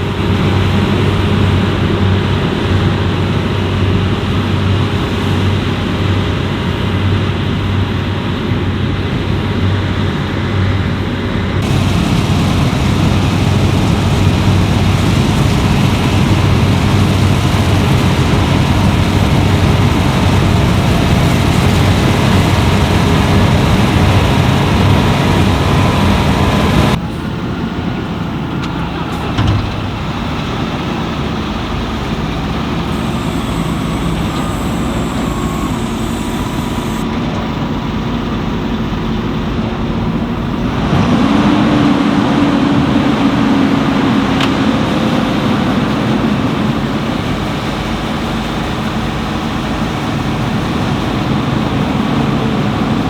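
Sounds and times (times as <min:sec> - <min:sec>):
combine harvester running: 0:00.0 - 0:53.0
low engine hum: 0:00.0 - 0:53.0.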